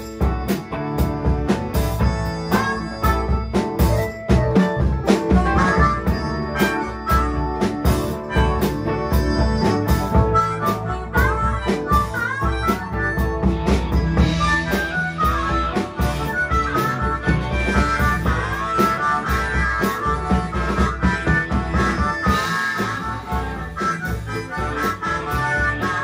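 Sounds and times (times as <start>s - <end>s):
bass guitar: 0.0s - 26.0s
blues band playing: 0.0s - 26.0s
drum kit keeping a beat: 0.0s - 26.0s
electric guitar: 0.0s - 26.0s
harmonica lead with bent notes: 0.0s - 26.0s.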